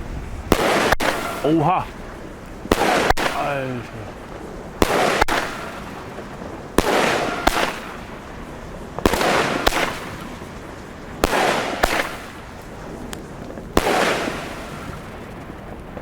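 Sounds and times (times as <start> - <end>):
firework bangs: 0.0 - 16.0
firework crackling burst: 0.0 - 16.0.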